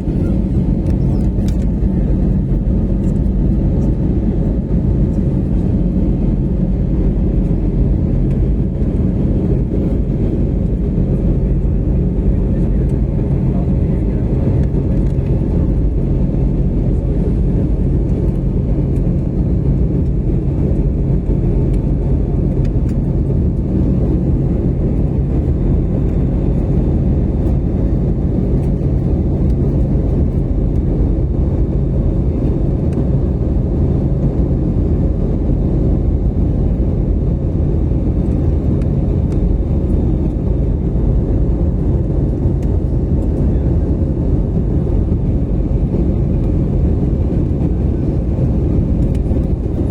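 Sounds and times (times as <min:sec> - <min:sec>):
airliner engines rumbling in cabin: 0:00.0 - 0:49.9
low hum: 0:00.0 - 0:49.9.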